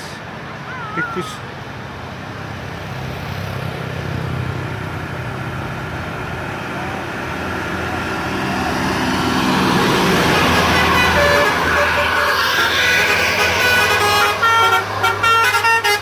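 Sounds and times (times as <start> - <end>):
diesel bus engines climbing: 0.0 - 16.0.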